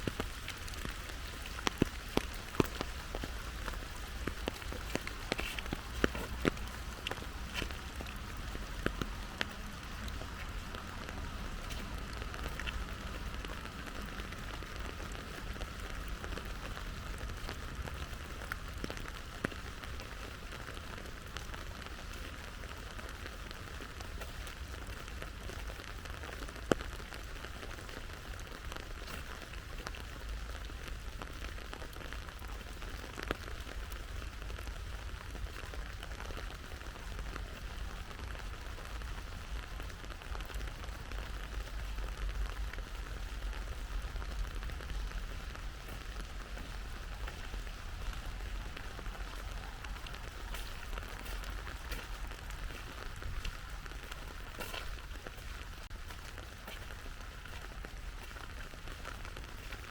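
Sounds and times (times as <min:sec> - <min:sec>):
rain falling: 0:00.0 - 0:59.9
raindrops ticking: 0:00.0 - 0:59.9.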